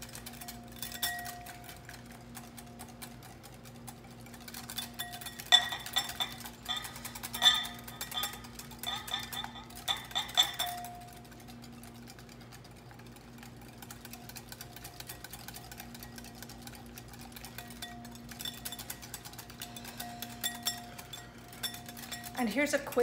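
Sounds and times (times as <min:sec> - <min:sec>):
whisk clinking in glass bowl: 0:00.0 - 0:23.0.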